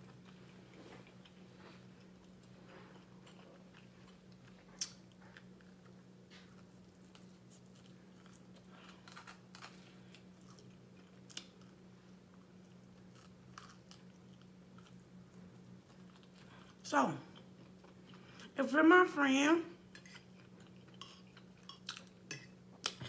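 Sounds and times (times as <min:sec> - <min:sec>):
chewing with crunchy clicks: 0:00.0 - 0:18.6, 0:19.9 - 0:23.0
low steady hum: 0:00.0 - 0:23.0.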